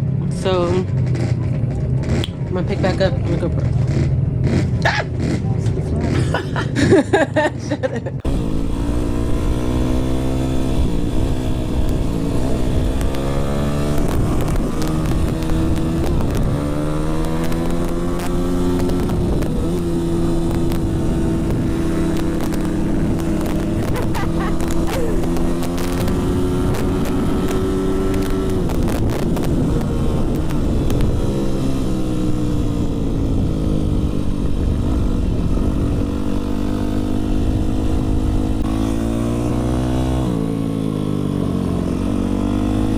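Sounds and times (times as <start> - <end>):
dirt bike engine revving: 0.8 - 42.9.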